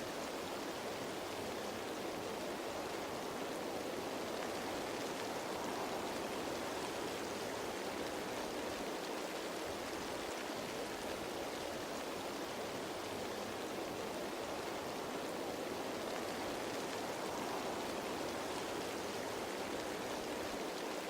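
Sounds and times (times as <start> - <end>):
rain on leaves: 0.0 - 21.0.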